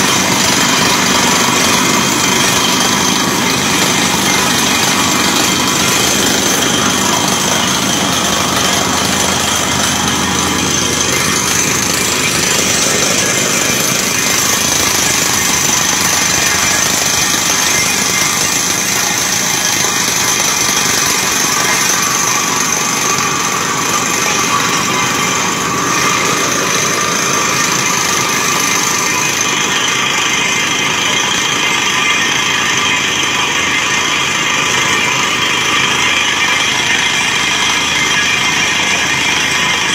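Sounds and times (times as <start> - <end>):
drilling rig noise: 0.0 - 39.9
high whining tones: 0.0 - 39.9.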